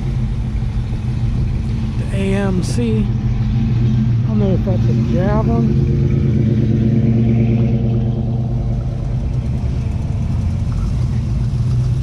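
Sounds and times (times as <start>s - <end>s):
car engines passing slowly: 0.0s - 12.0s.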